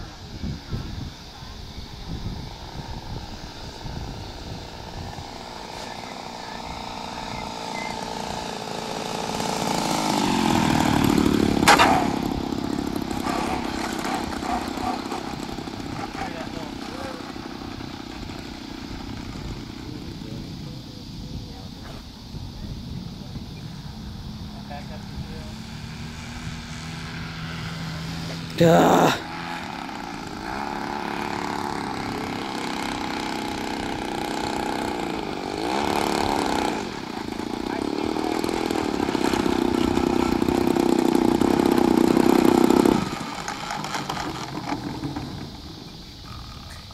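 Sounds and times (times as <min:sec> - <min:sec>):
model airplane engine: 0:00.0 - 0:21.8, 0:22.4 - 0:46.9.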